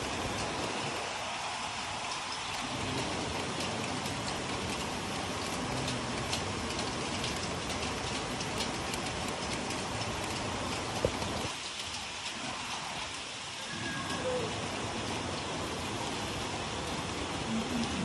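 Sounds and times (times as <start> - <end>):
steady rain pattering: 0.0 - 18.0.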